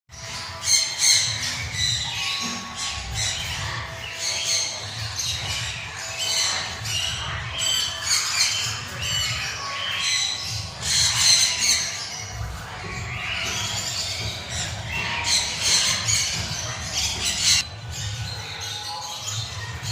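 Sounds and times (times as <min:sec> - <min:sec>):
cockatoo squawking: 0:00.4 - 0:19.9.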